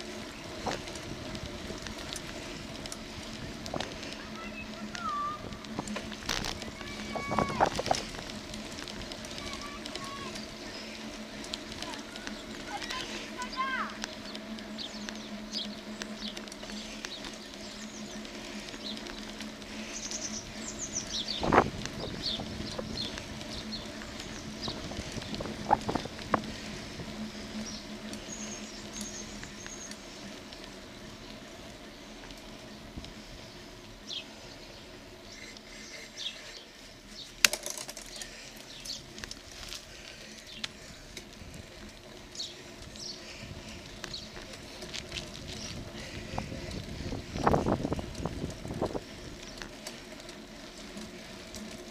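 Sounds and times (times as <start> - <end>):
bicycle clicks and rattles: 0.0 - 51.9
songbirds chirping: 0.0 - 51.9
steady low hum: 0.0 - 51.9.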